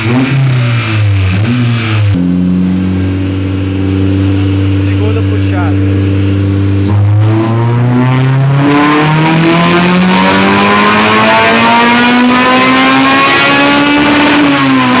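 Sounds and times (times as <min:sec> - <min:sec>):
car engine revving on dynamometer: 0:00.0 - 0:15.0.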